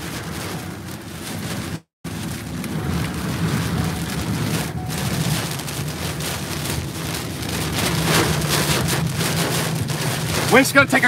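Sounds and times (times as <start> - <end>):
heavy rain on car windshield: 0.0 - 11.0
vehicle engine and tyres rumbling: 0.0 - 11.0.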